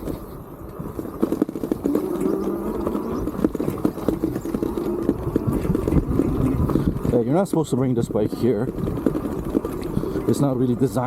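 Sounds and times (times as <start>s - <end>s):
e-bike rumbling over rough ground: 0.0s - 11.0s
knocks and rattles: 0.9s - 11.0s.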